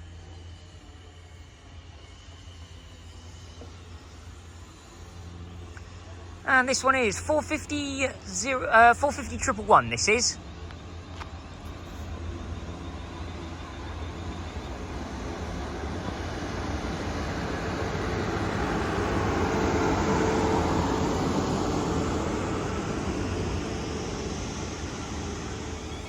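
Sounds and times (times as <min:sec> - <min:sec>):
electric train motors and wheels: 0:00.0 - 0:26.0.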